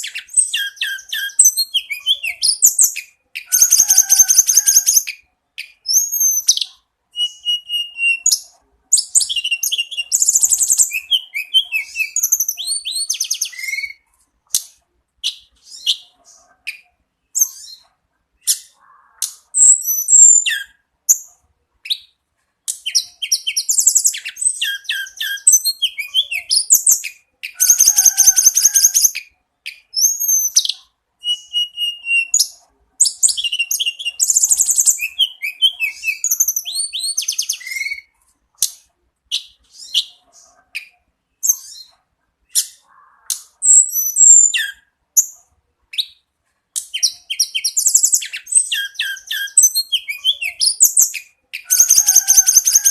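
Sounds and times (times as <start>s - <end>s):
songbird singing trills: 0.0s - 46.2s, 46.8s - 52.9s.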